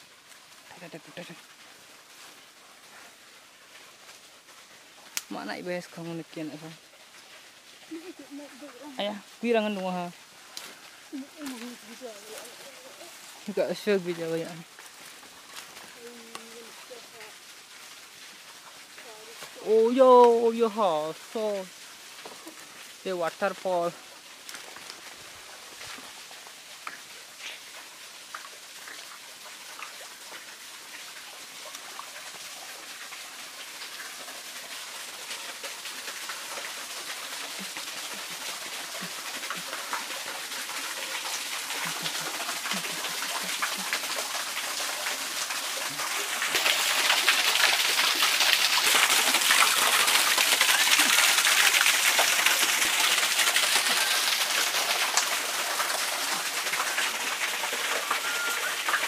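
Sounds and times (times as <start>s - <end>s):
waterfall splashing into a pool: 0.0s - 59.0s.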